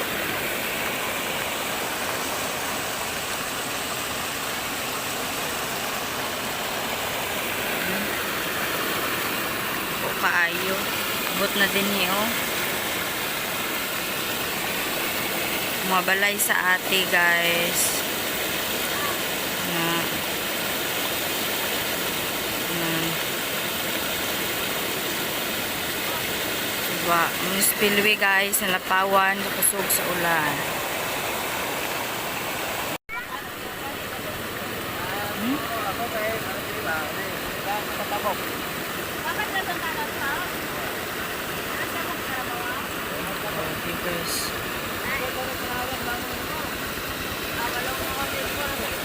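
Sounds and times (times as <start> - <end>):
water rushing over a spillway: 0.0 - 49.0.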